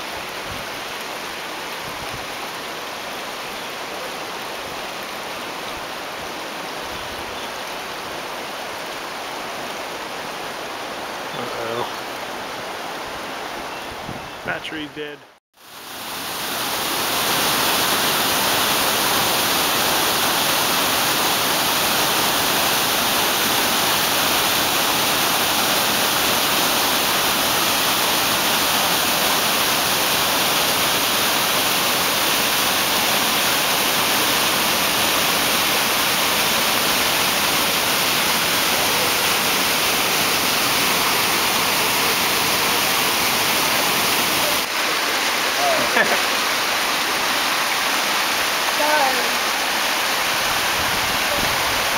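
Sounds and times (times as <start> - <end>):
waterfall rushing over rocks: 0.0 - 51.9.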